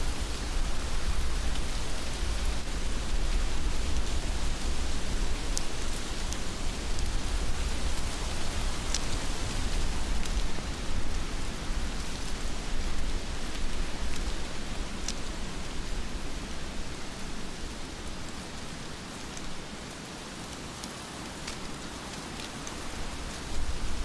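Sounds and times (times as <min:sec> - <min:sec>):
heavy rain falling: 0:00.0 - 0:24.0
raindrops ticking close by: 0:00.1 - 0:24.0.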